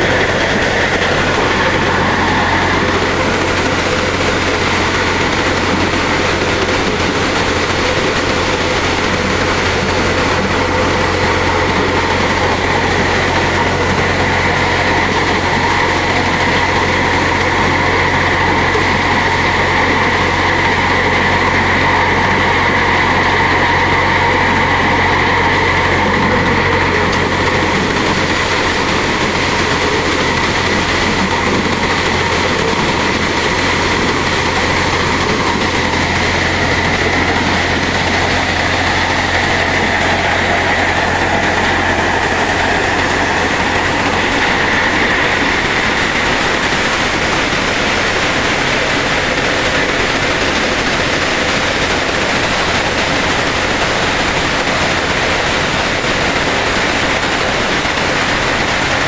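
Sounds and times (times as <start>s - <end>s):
low machine hum: 0.0s - 59.0s
thresher mechanical din: 0.0s - 59.0s.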